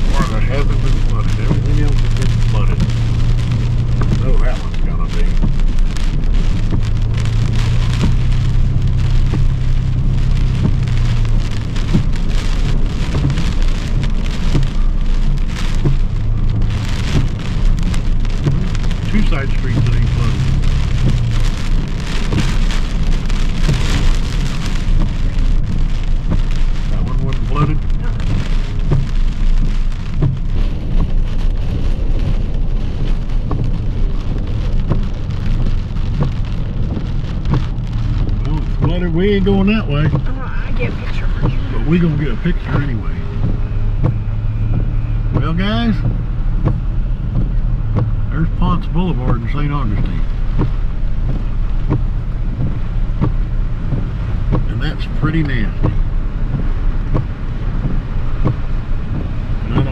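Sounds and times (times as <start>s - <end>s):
low vehicle hum: 0.0s - 59.9s
rain pattering on car roof: 0.0s - 59.9s.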